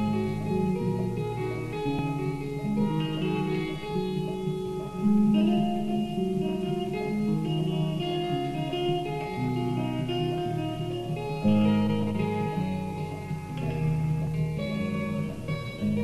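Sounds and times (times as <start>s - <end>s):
electric guitar noodling: 0.0s - 16.0s.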